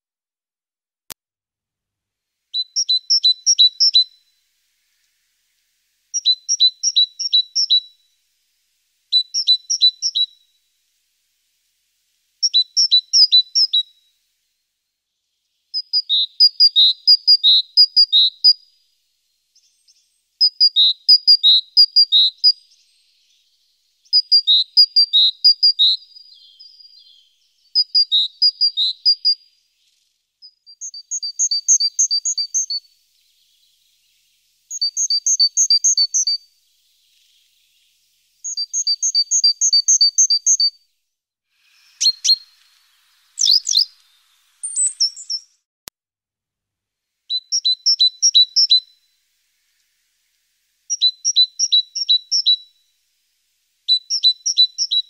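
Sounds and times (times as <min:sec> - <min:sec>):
small songbird singing: 0:02.5 - 0:45.7, 0:47.3 - 0:55.0.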